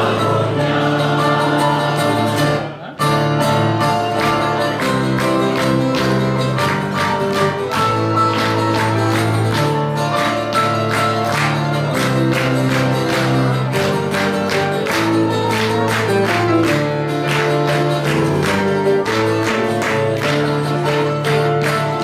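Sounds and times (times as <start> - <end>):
bouzouki guitar and keyboard song: 0.0 - 22.0.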